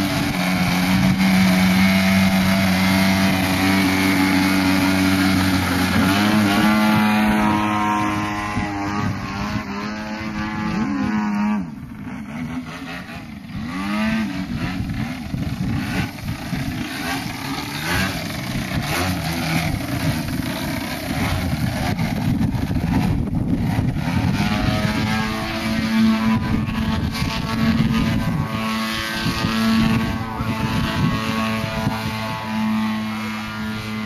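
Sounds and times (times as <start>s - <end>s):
model airplane engine: 0.0s - 34.0s.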